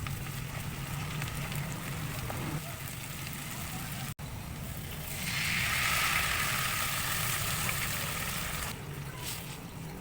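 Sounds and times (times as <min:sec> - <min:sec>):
food sizzling in a pan: 0:00.0 - 0:08.7.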